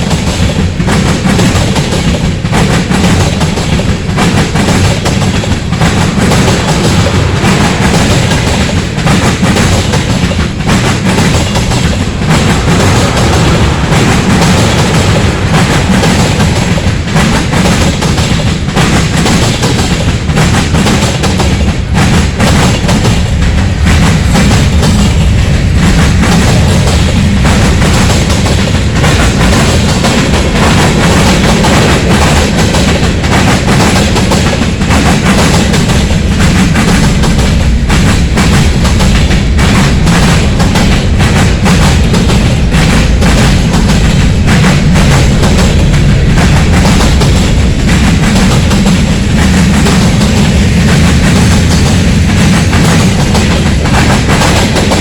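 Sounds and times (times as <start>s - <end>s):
rumble of train wheels on rail: 0.0s - 55.0s
wheels clicking over rail joints: 0.0s - 55.0s.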